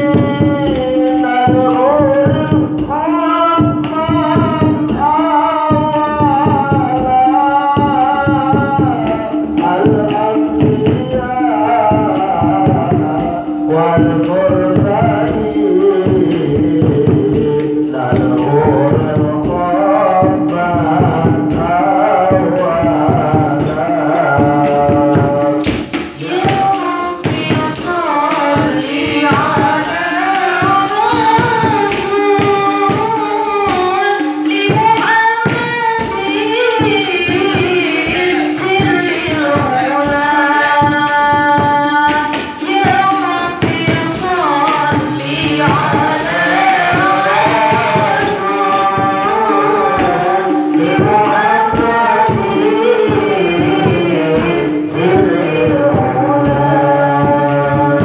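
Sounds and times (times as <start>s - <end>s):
hand drums with jingles: 0.0s - 58.0s
woman singing into microphone: 0.0s - 58.0s.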